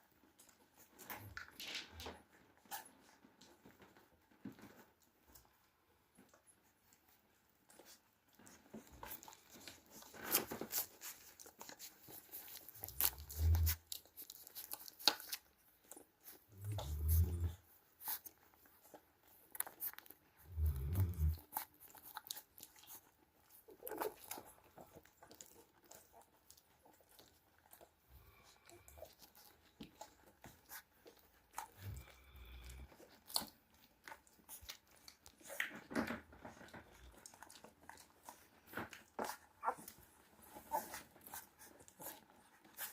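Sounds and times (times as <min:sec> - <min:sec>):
puppy chewing something crunchy: 0:00.0 - 0:42.9.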